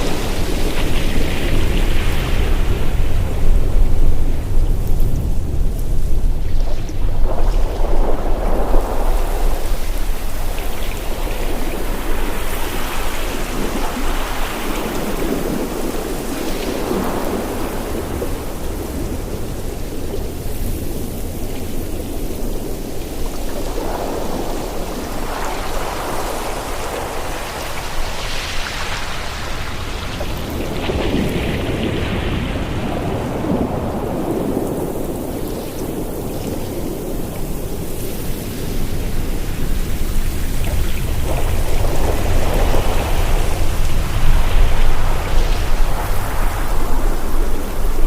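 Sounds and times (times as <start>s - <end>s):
ocean waves breaking on shore: 0.0s - 48.0s.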